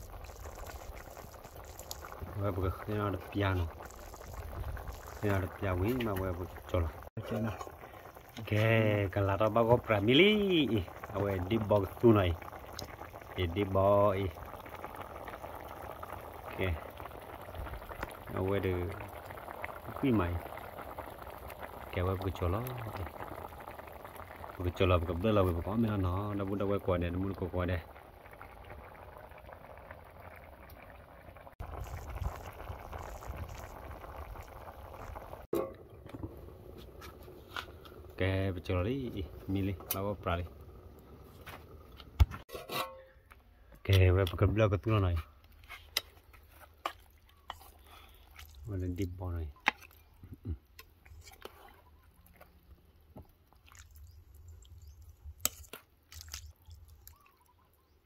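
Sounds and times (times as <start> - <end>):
curry bubbling in pot: 0.0 - 42.5, 43.7 - 58.0.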